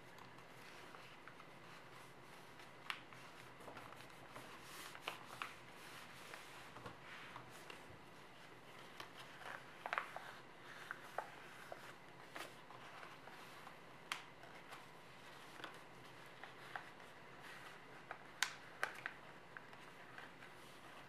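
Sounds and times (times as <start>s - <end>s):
paper rustling and crackling: 0.0s - 21.0s.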